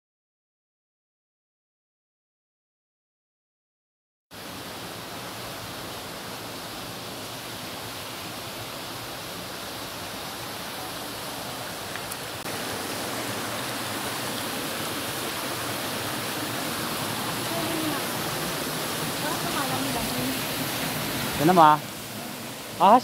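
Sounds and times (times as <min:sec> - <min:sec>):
waterfall and stream rushing: 0:04.4 - 0:23.0.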